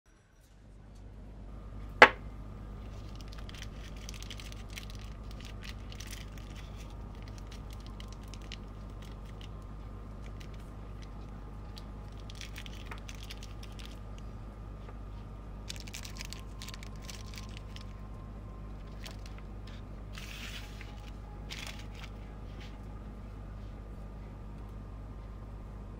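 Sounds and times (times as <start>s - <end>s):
steady low hum: 0.5s - 25.9s
soft rustling of handling: 2.8s - 25.4s.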